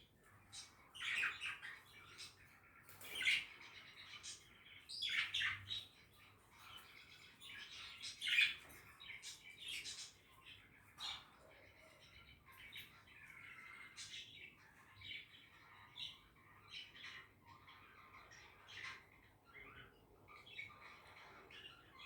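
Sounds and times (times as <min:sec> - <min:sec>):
budgies chirping and chattering: 0:00.0 - 0:22.0.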